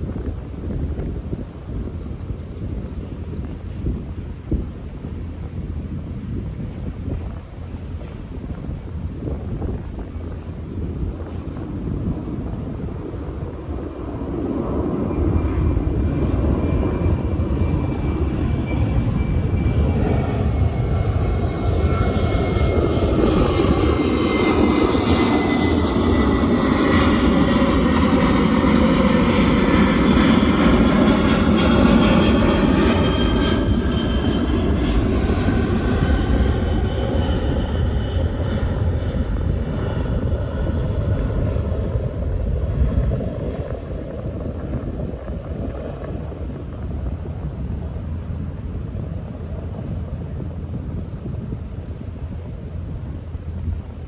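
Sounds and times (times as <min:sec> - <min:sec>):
airliner flying over: 0:00.0 - 0:54.0
wind rumble on microphone: 0:00.0 - 0:54.0.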